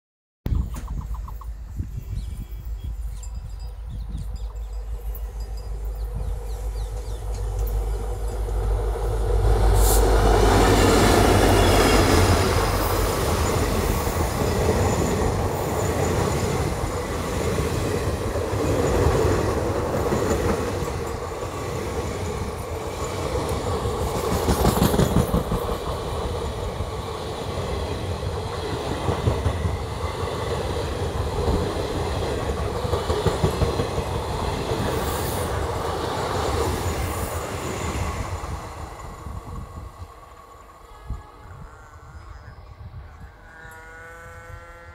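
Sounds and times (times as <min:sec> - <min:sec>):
diesel train passing: 0:02.6 - 0:44.3.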